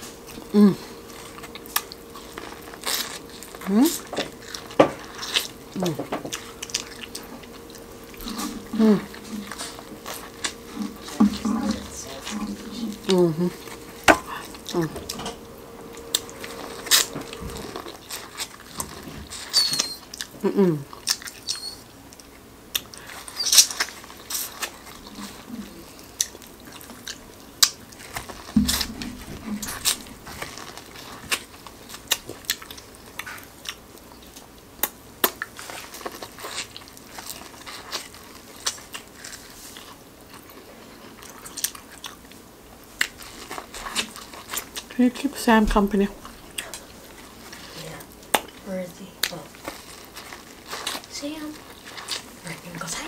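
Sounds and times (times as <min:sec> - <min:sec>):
chewing corn on the cob: 0:00.0 - 0:45.4, 0:46.2 - 0:53.0.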